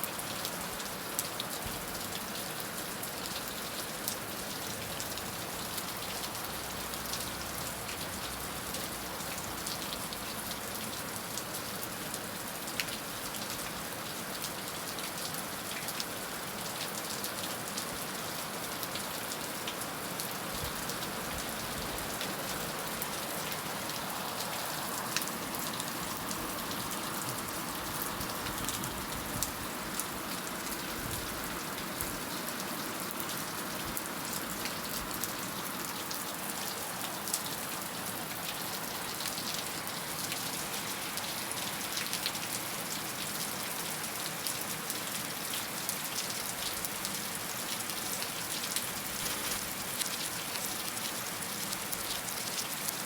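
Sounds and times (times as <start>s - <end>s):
heavy rain falling: 0.2s - 53.0s.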